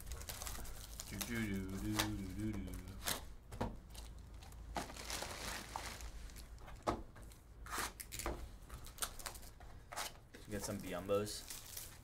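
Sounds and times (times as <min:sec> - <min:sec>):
plastic wrap rustling: 0:00.0 - 0:06.8, 0:07.9 - 0:12.0.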